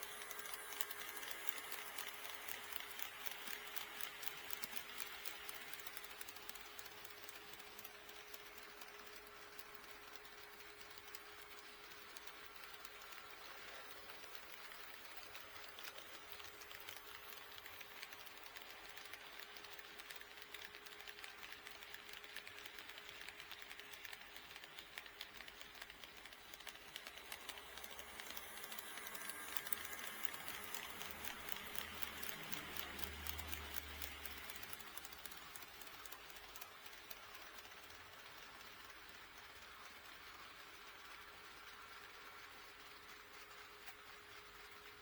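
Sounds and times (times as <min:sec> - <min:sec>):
model train wheels clicking: 0:00.0 - 0:45.0.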